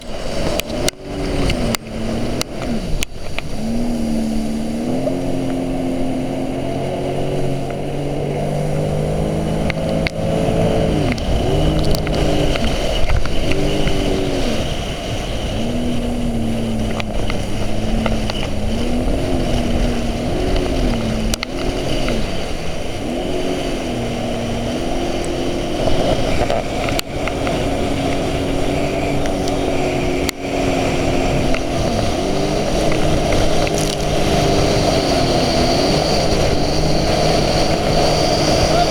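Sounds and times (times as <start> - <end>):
jet ski engine: 0.0 - 38.9
water rushing: 0.0 - 38.9.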